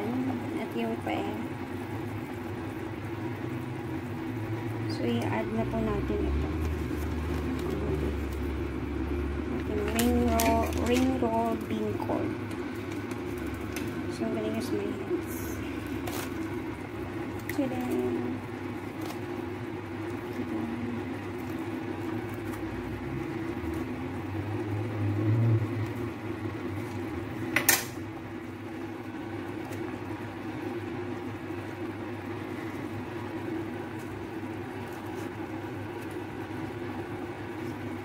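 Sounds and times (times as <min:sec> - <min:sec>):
soup simmering in a pot: 0:00.3 - 0:38.0.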